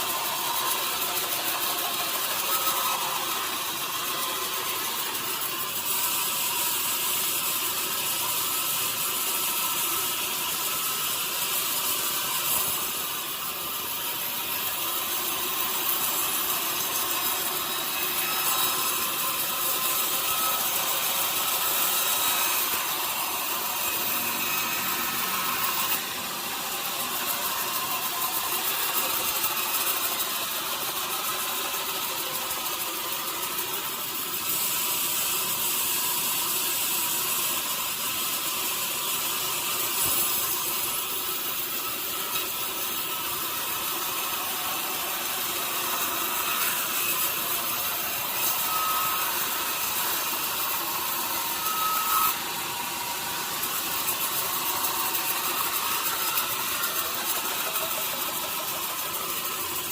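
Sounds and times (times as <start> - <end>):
running sawmill machinery: 0.0 - 59.9
saw blade cutting through wood: 0.0 - 59.9.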